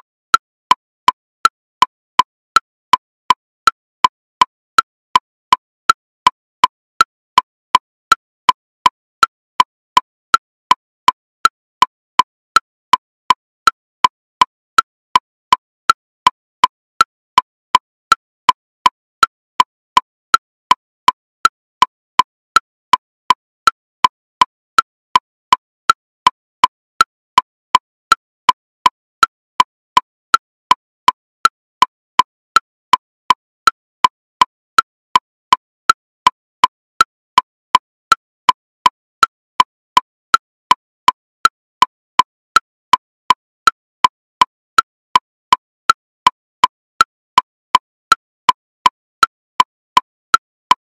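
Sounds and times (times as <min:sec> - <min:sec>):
metronome woodblock clicks: 0:00.0 - 0:50.9.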